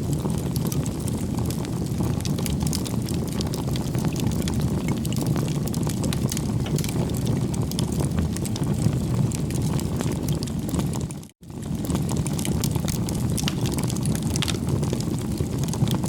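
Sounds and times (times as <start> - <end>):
bonfire roaring: 0.0 - 16.0
burning wood crackling and popping: 0.0 - 16.0.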